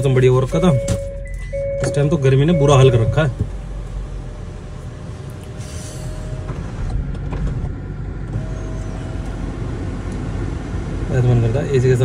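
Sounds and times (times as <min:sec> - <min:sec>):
engine and road rumble: 0:00.0 - 0:12.0
faint whine: 0:00.0 - 0:12.0.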